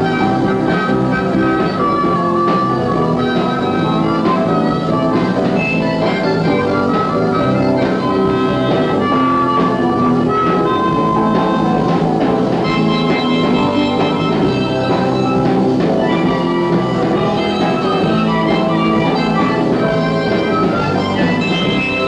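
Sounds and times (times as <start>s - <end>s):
bass guitar: 0.0s - 22.0s
drums: 0.0s - 22.0s
electric guitar: 0.0s - 22.0s.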